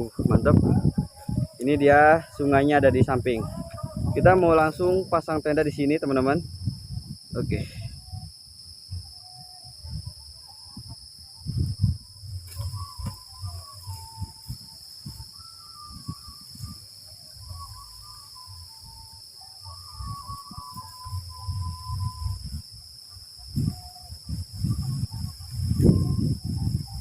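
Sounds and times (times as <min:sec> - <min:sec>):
insects droning: 0:00.0 - 0:27.0
wind buffeting microphone: 0:00.0 - 0:27.0.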